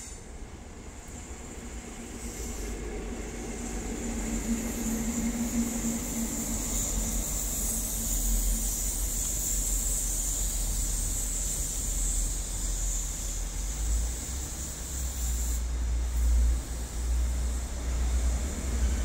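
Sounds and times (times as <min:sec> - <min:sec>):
diesel locomotive engine: 0:00.0 - 0:19.0
train wheels rumbling on rail: 0:00.0 - 0:19.0.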